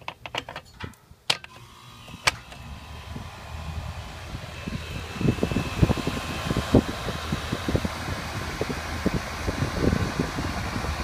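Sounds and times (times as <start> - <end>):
condenser fan blowing: 1.3 - 11.0
wind buffeting microphone: 2.0 - 11.0.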